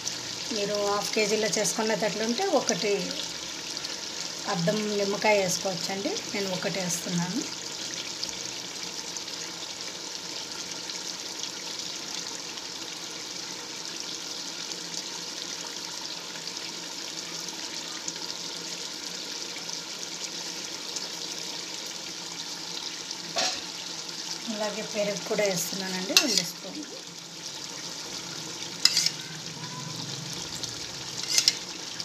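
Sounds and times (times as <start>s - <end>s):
food hissing in a pot: 0.0s - 32.0s.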